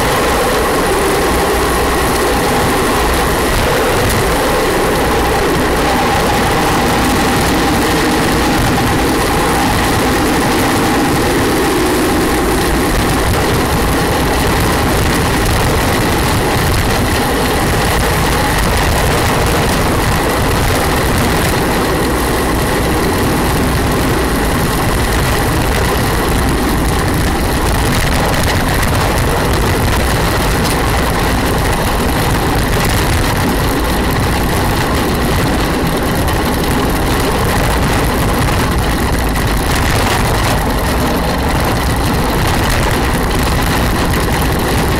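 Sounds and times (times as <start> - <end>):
thin steady whine: 0.0 - 44.9
wheels rumbling on rough asphalt: 0.0 - 44.9
wind rushing over microphone: 0.0 - 44.9.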